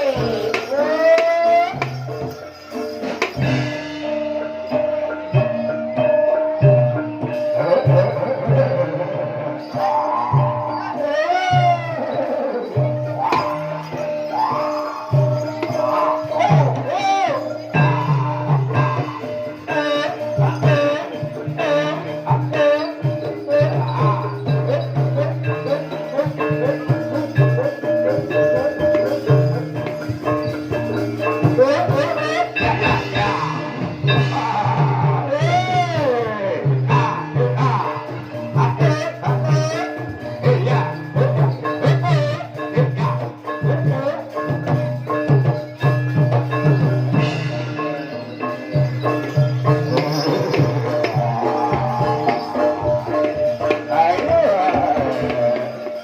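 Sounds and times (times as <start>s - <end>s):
mallet-struck tuned percussion: 0.0s - 56.0s.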